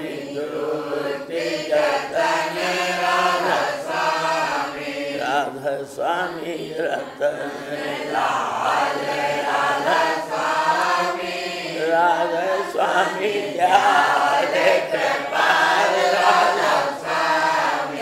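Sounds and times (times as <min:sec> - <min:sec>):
group chanting a hymn: 0:00.0 - 0:18.0.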